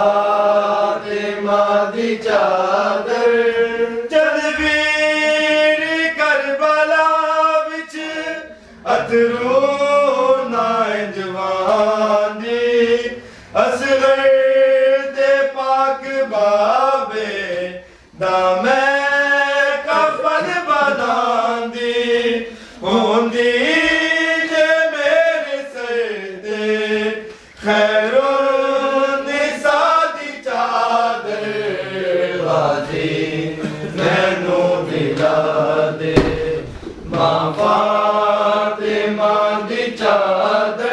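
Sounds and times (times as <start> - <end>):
men chanting a lament: 0.0 - 40.9.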